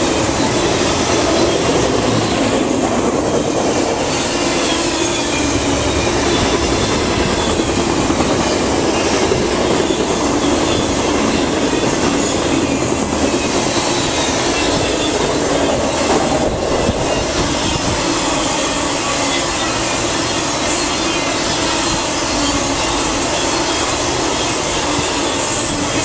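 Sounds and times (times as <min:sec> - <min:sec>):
freight train wheels rolling on rails: 0:00.0 - 0:26.0.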